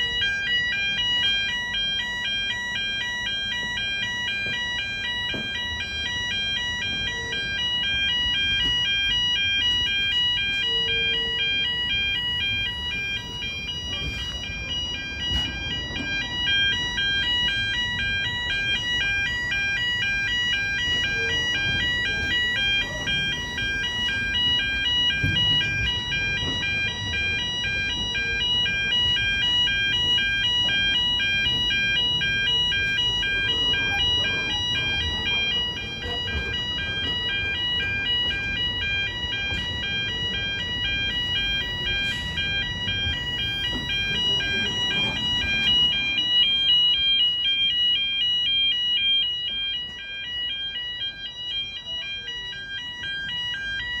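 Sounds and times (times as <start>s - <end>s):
freight train rumbling over crossing: 0.0s - 47.1s
level crossing alarm warbling: 0.0s - 54.0s.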